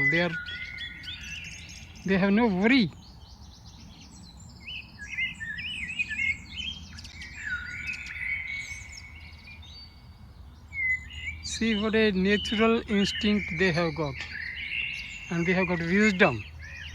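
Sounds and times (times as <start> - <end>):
songbirds chirping: 0.0 - 16.9.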